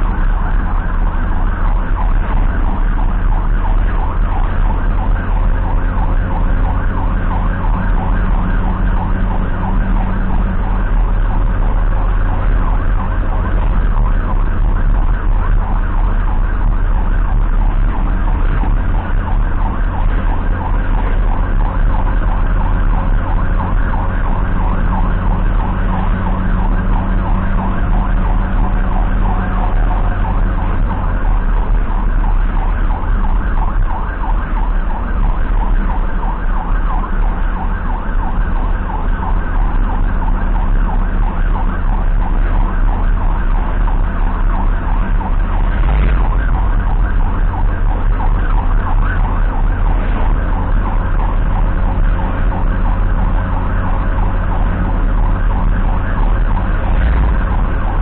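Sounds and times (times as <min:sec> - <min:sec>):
ambulance siren warbling: 0:00.0 - 0:58.0
engine and road rumble: 0:00.0 - 0:58.0.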